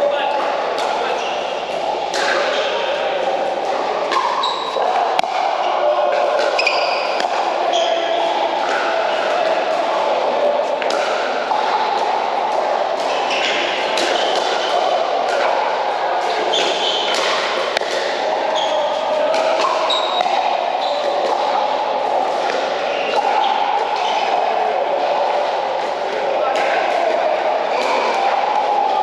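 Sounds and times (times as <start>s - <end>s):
murmur of voices: 0.0s - 29.0s.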